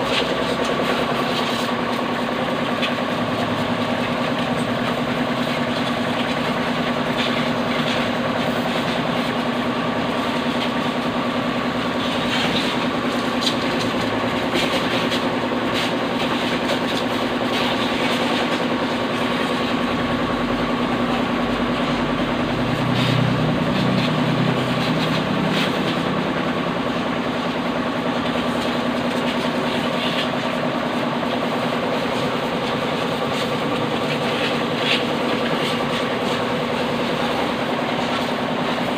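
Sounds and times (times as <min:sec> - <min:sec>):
pressure washer motor hum: 0:00.0 - 0:38.9
water jet hissing and spattering: 0:00.0 - 0:38.9.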